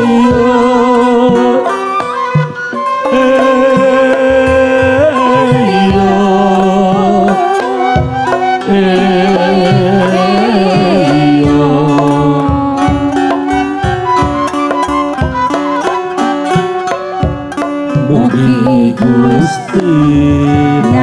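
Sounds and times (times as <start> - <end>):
drum strokes: 0.0 - 21.0
wavering sliding melody: 0.0 - 21.0.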